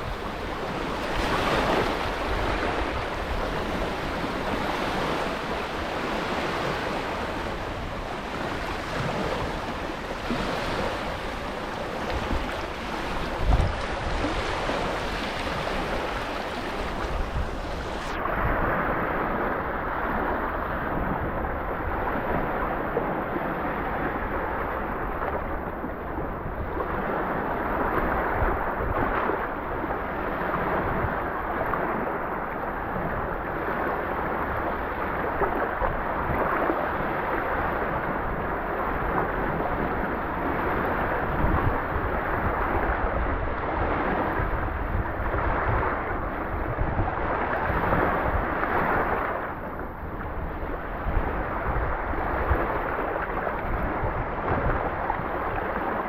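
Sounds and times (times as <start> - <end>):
sea waves washing onto beach: 0.0 - 56.0
wind buffeting microphone: 0.0 - 56.0.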